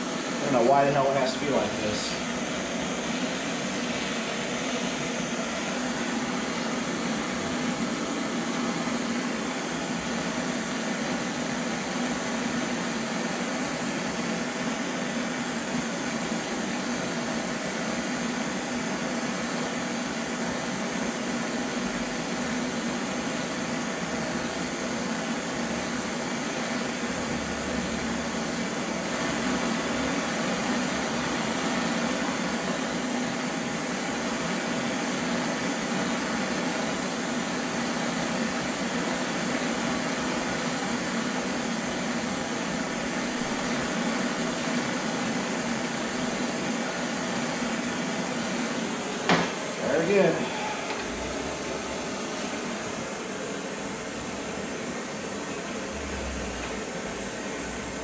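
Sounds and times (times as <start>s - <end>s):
gas torch hissing: 0.0s - 58.0s.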